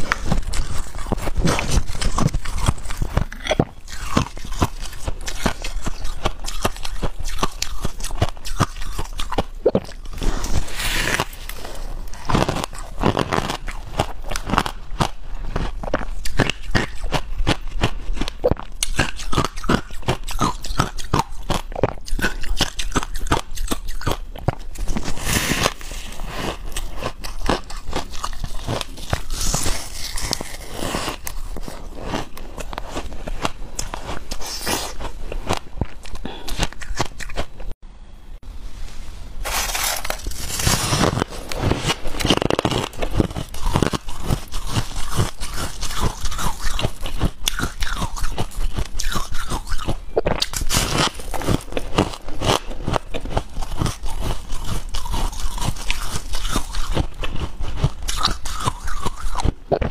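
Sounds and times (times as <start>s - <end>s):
crunching shaved ice: 0.0s - 37.4s, 39.4s - 59.6s.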